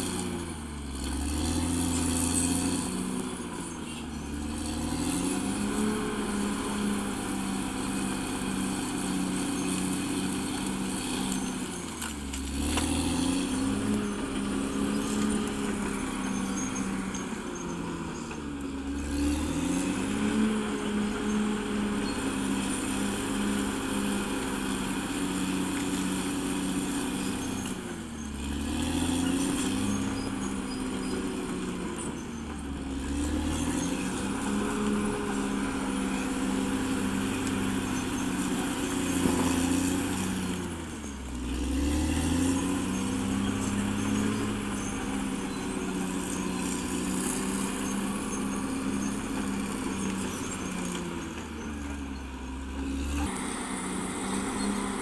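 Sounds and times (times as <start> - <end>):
bulldozer diesel engine labouring: 0.0 - 55.0.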